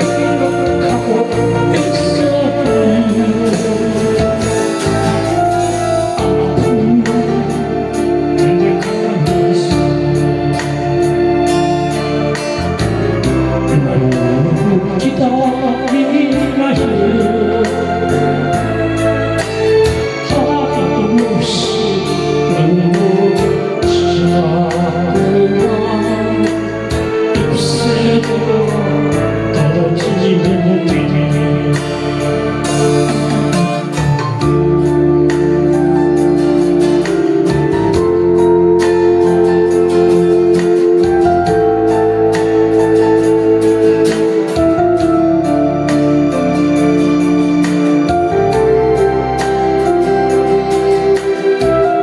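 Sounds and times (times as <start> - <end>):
electronic organ and keyboard: 0.0 - 52.0
person singing a slow ballad: 0.0 - 52.0.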